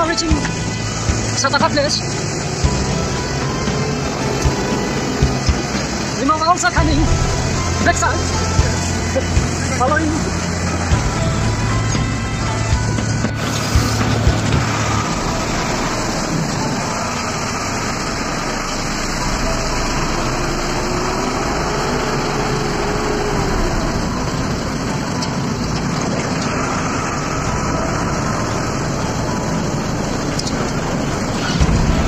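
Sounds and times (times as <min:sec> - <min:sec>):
vehicle driving on dirt road: 0:00.0 - 0:32.0.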